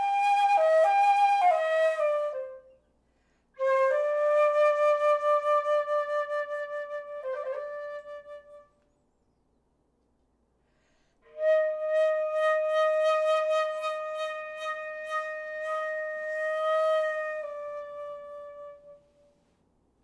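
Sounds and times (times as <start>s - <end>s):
flute holding long note: 0.0s - 2.8s, 3.6s - 8.8s, 11.2s - 19.5s.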